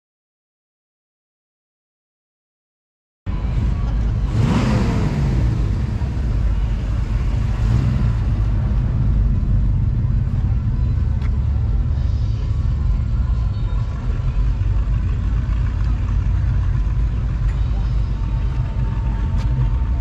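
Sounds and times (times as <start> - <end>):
car engine driving by: 3.3 - 20.0.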